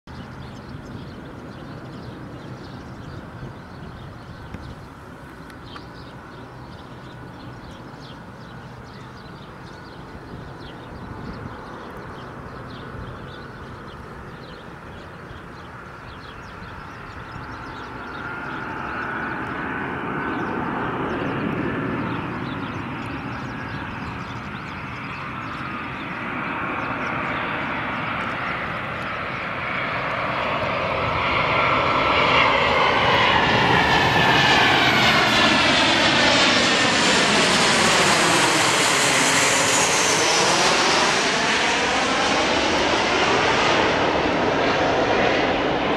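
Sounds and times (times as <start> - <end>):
jet airliner passing overhead: 0.1 - 45.9.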